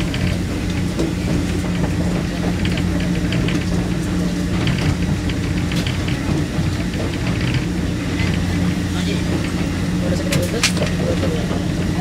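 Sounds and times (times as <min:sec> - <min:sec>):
train carriage hum: 0:00.0 - 0:12.0.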